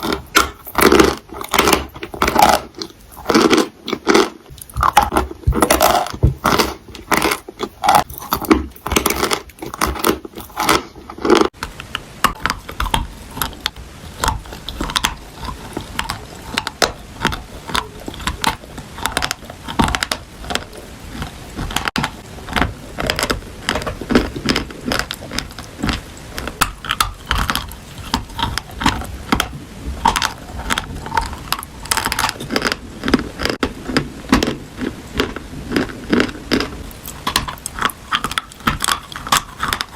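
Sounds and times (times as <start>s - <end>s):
crunching and chewing crisp food: 0.0s - 39.9s.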